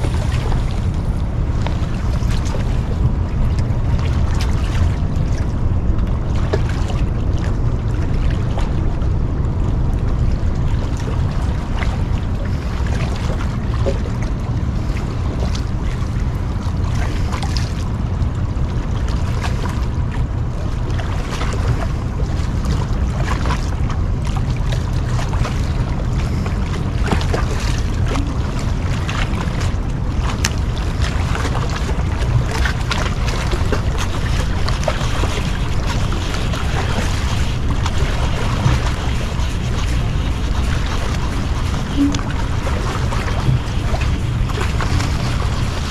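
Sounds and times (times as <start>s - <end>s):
small clicks and splashes: 0.0s - 45.9s
water lapping: 0.0s - 45.9s
wind rumble on microphone: 0.0s - 45.9s.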